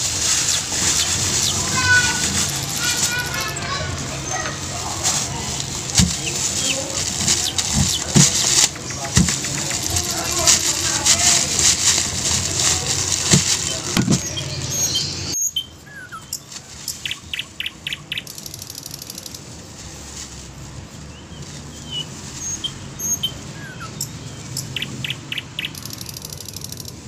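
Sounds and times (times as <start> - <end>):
small birds chirping: 0.0 - 19.4, 21.0 - 27.0
rustling: 0.0 - 27.0.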